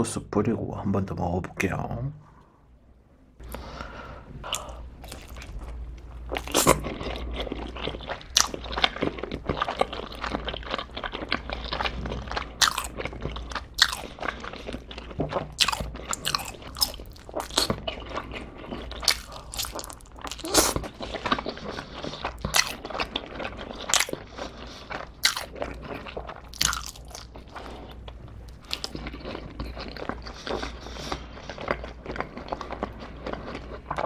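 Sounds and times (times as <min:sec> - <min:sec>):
wet chewing: 0:04.4 - 0:34.0
crisp crust crunching: 0:04.6 - 0:34.0.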